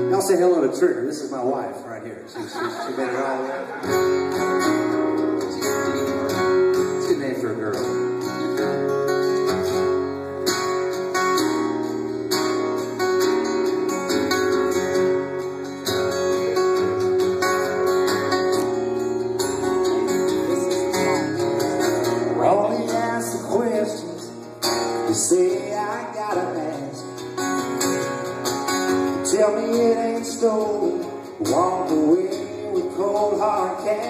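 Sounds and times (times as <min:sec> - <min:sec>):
acoustic guitar chords: 0:00.0 - 0:34.0.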